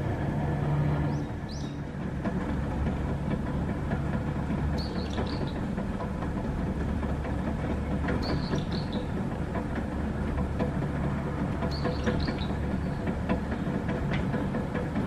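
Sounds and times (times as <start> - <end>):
cable car rumbling: 0.0 - 15.0
cable running over rollers: 0.0 - 15.0.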